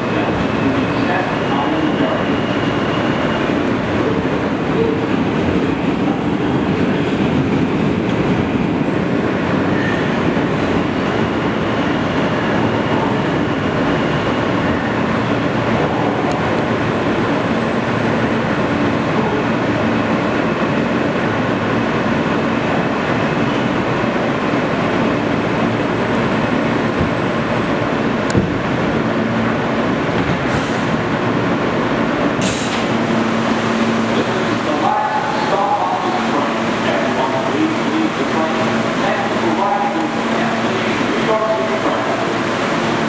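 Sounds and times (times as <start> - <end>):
subway wheels rumbling on track: 0.0 - 43.0.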